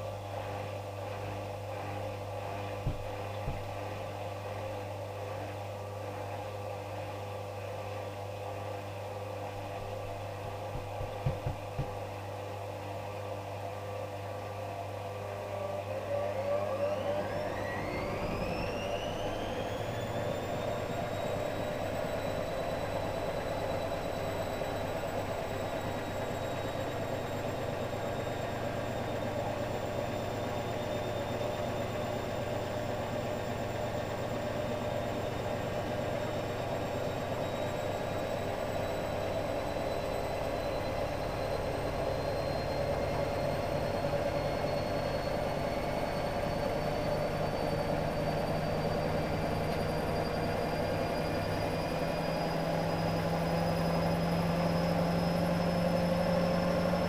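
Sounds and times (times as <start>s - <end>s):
washing machine motor hum and whine: 0.0s - 57.0s.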